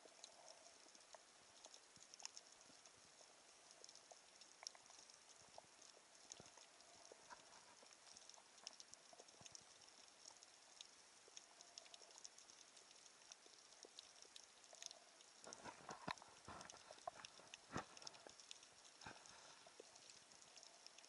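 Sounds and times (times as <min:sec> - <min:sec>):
underwater crackling and clicking: 0:00.0 - 0:21.0.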